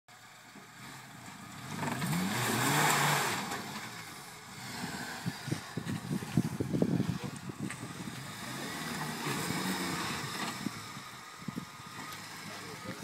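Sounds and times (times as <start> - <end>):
engine revving under load: 0.7 - 13.0.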